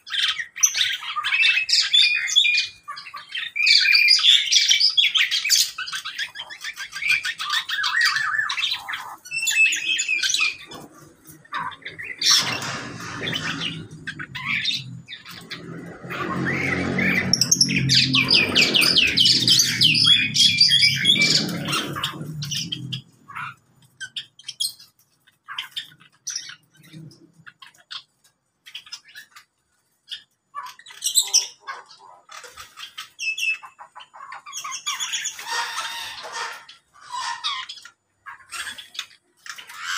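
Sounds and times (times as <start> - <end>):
birds squawking and chirping: 0.0 - 39.9.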